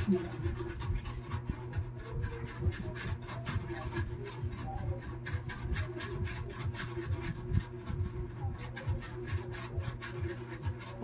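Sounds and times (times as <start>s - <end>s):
scraping rasping strokes: 0.0s - 11.0s.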